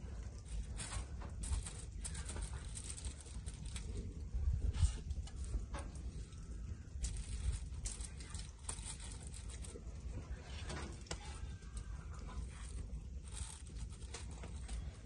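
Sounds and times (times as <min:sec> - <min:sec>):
aluminium foil crinkling: 0:00.0 - 0:15.0
soft rustles and clicks: 0:00.0 - 0:15.0
steady low rumble: 0:00.0 - 0:15.0.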